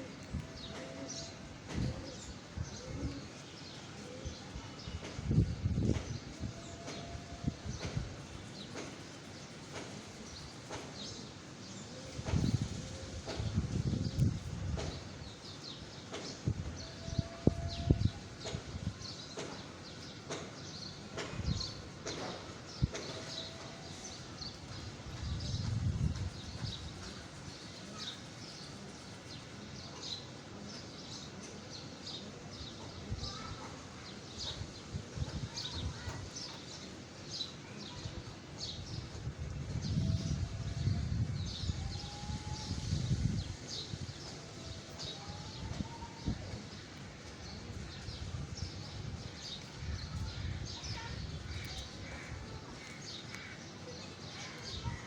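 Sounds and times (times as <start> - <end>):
small birds chirping: 7.7 - 55.0.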